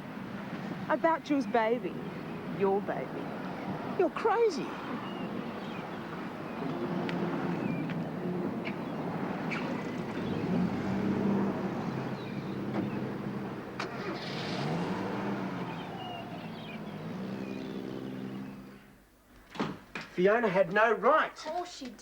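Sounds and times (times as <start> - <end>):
car engines passing: 0.0 - 19.1.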